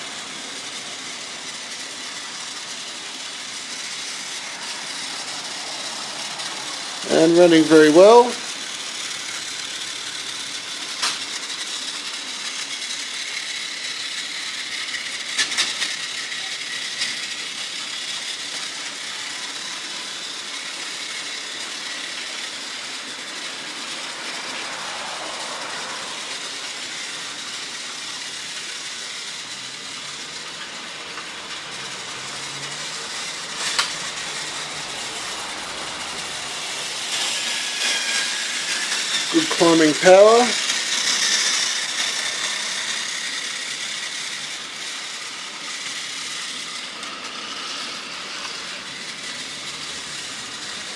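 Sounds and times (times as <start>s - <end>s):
toy train motor whir: 0.0s - 50.9s.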